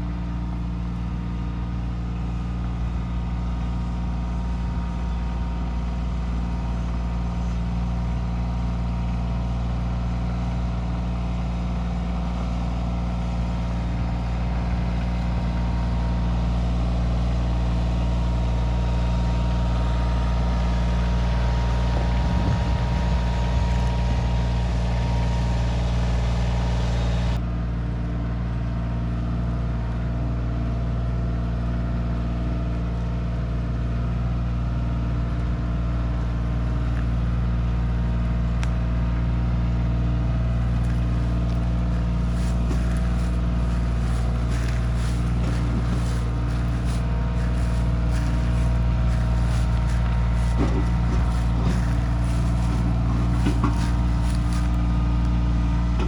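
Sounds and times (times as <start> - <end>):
tractor diesel engine running: 0.0 - 27.4, 35.6 - 56.0.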